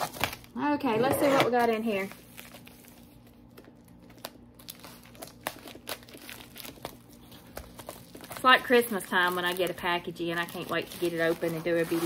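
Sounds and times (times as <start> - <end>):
envelope crinkling: 1.9 - 12.0.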